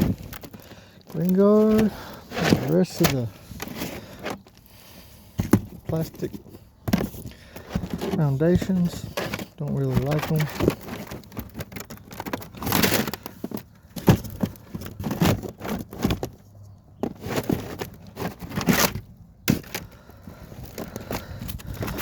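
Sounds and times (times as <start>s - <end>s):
wooden parts clattering and scraping: 0.0s - 22.0s.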